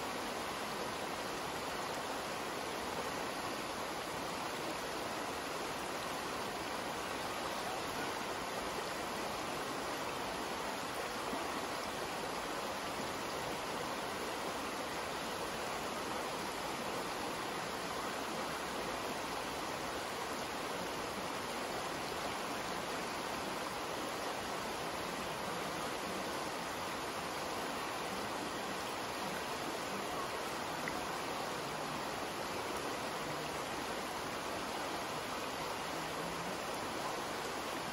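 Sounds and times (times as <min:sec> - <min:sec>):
creek water flowing over rocks: 0:00.0 - 0:37.9.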